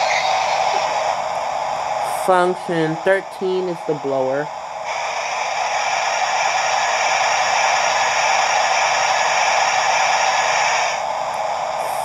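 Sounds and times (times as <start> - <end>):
steam hiss from small speaker: 0.0 - 12.0.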